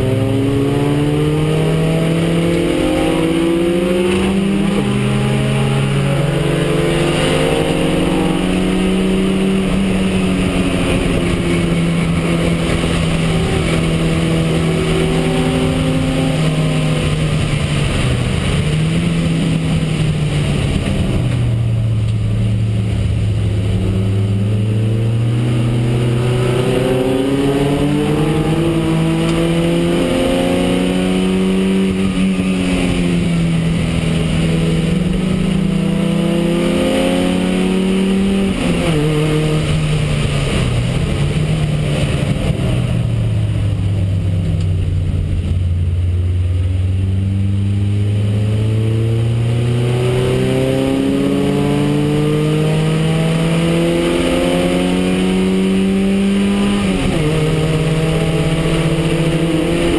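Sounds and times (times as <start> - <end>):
race car engine pulling hard: 0.0 - 59.9.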